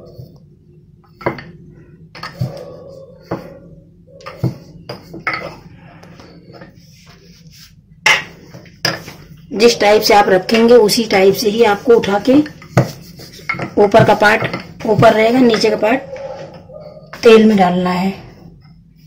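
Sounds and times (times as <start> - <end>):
rolling pin rolling dough: 1.0 - 17.5.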